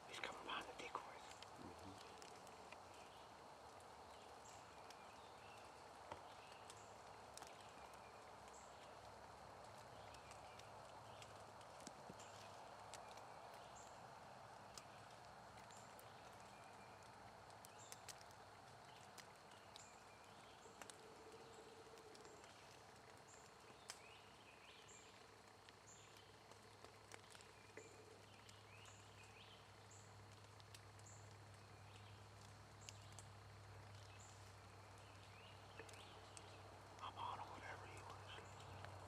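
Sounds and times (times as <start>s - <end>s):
small birds chirping: 0.0s - 39.0s
soft ticks: 0.2s - 14.0s, 14.7s - 39.0s.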